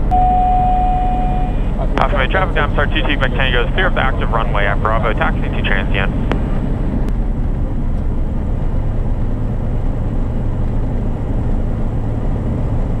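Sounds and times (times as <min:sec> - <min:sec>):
propeller engine drone: 0:00.0 - 0:13.0.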